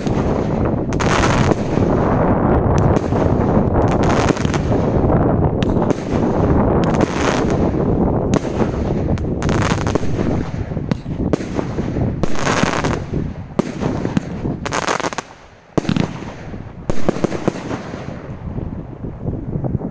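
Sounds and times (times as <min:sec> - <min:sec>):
firework shots and bursts: 0:00.0 - 0:18.9.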